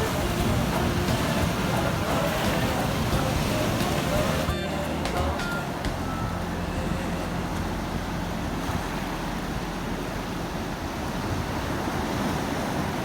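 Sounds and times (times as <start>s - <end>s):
sea waves rushing: 0.0s - 13.0s
wind: 0.0s - 13.0s.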